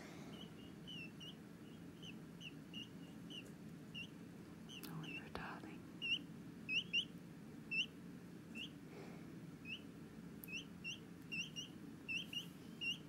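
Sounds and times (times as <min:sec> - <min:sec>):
chick cheeping: 0:00.3 - 0:05.2, 0:06.0 - 0:08.8, 0:09.6 - 0:13.0.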